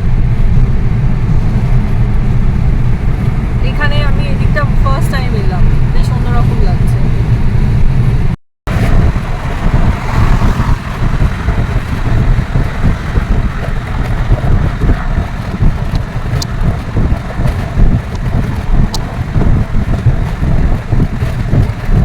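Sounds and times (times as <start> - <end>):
vehicle rumble: 0.0 - 22.0
wind buffeting microphone: 0.0 - 22.0.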